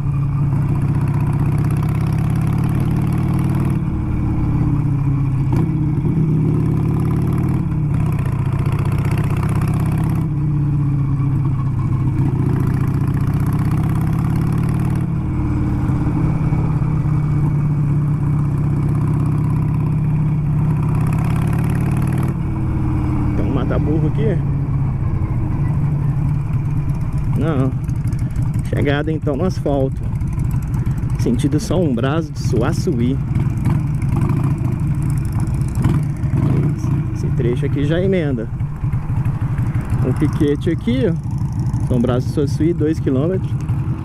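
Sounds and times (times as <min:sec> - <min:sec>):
motorcycle engine running: 0:00.0 - 0:44.0
road and wind noise: 0:00.0 - 0:44.0.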